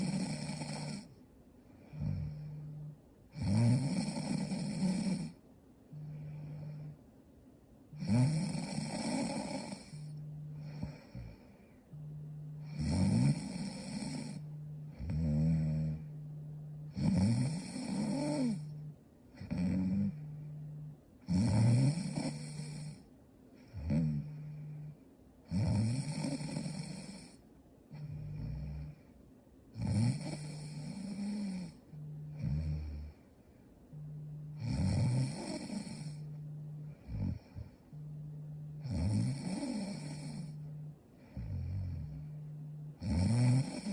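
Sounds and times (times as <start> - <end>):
woman snoring: 0.0 - 1.1, 1.8 - 7.0, 7.9 - 16.2, 16.8 - 20.5, 21.2 - 29.1, 29.7 - 33.2, 33.9 - 42.4, 43.0 - 43.9.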